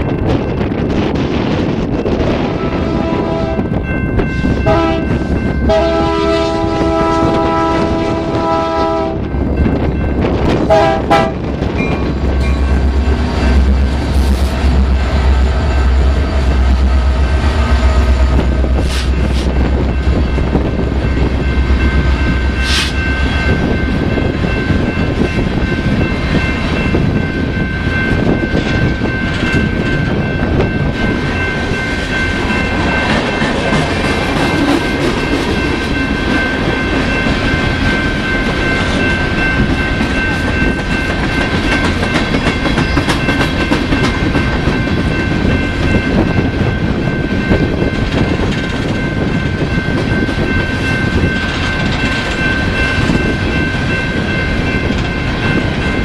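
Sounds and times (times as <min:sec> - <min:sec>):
train rumbling past: 0:00.0 - 0:56.0
steady high-pitched tone: 0:11.0 - 0:56.0.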